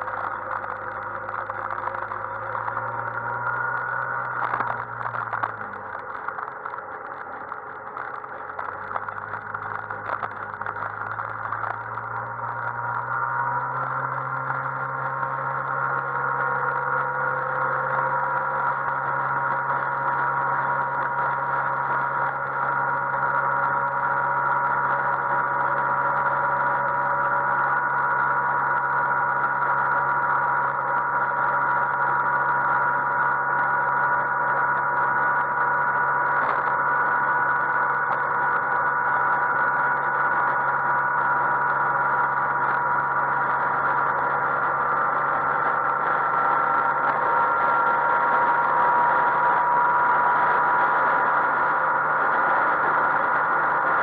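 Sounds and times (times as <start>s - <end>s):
road noise: 0.0s - 54.0s
scooter engine cruising: 0.0s - 54.0s.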